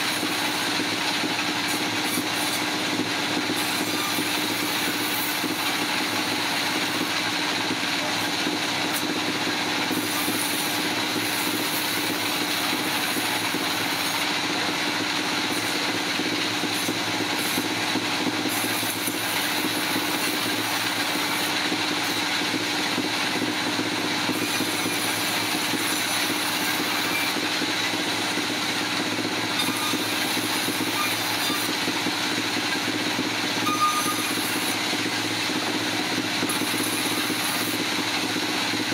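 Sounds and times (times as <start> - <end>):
machinery humming with whine: 0.0 - 38.9.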